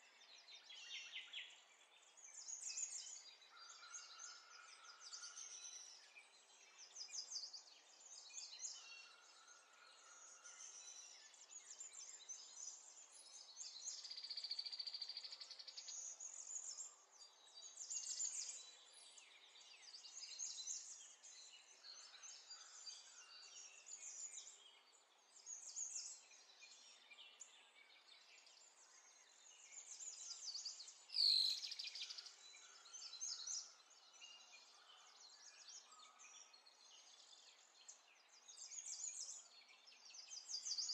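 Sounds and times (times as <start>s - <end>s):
small birds twittering: 0.0s - 40.9s.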